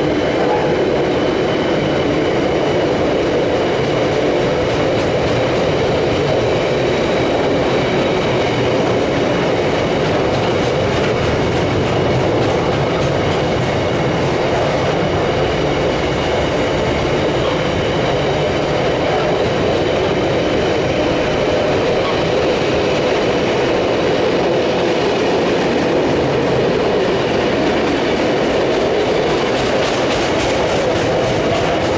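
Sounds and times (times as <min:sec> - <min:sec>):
freight train wheels rumbling: 0:00.0 - 0:31.9.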